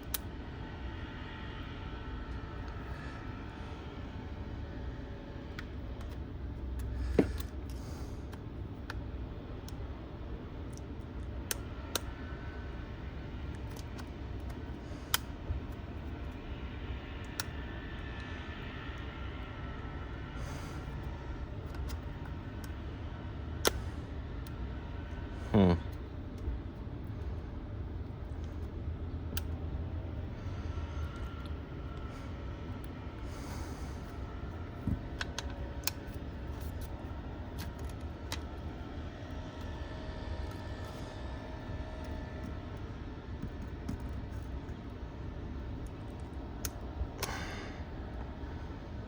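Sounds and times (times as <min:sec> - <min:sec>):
low background rumble: 0:00.0 - 0:49.0
steady low hum: 0:00.0 - 0:49.0.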